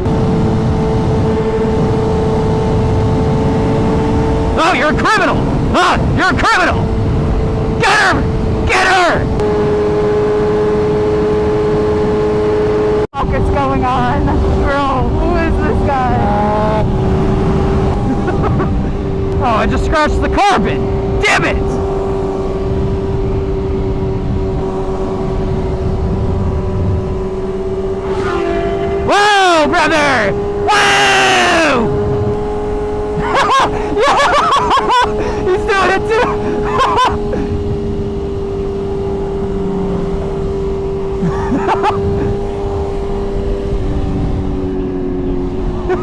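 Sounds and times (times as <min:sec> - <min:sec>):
motorcycle engine droning: 0:00.0 - 0:46.0
wind rumble on microphone: 0:00.0 - 0:46.0.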